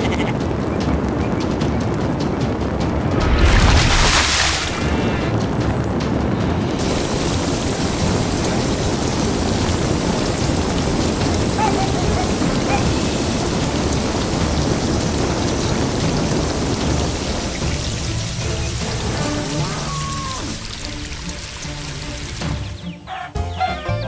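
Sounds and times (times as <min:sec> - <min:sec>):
hiss of falling water: 0:00.0 - 0:23.0.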